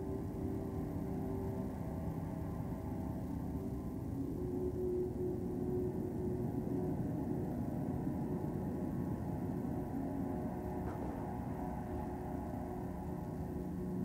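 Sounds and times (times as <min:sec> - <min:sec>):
low dense electronic drone: 0:00.0 - 0:14.0.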